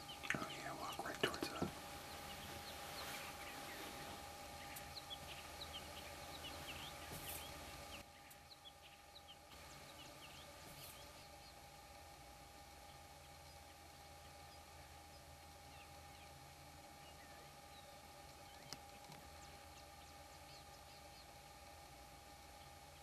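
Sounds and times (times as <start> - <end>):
faint steady hum: 0.0 - 23.0
small birds chirping: 0.0 - 23.0.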